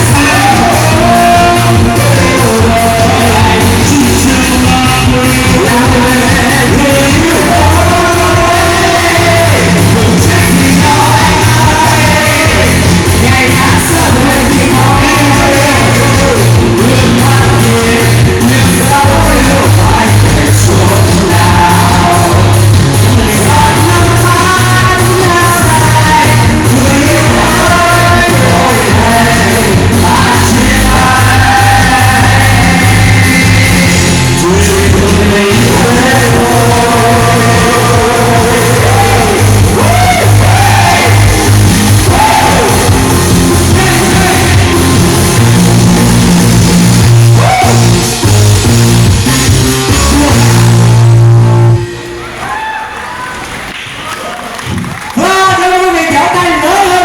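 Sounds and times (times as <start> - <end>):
people singing: 0.0 - 46.3
band playing with strong bass: 0.0 - 52.2.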